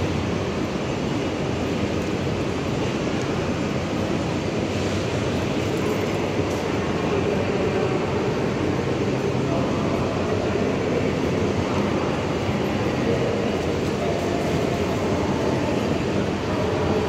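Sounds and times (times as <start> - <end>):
constant low rumble: 0.0 - 17.0.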